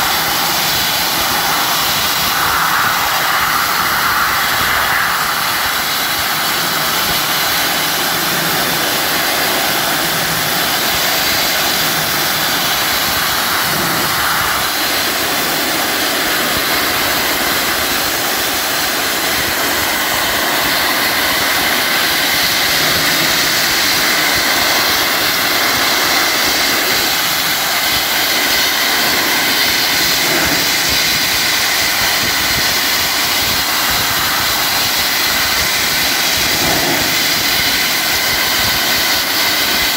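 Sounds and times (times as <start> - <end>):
abrasive blaster loud hiss: 0.0 - 39.9.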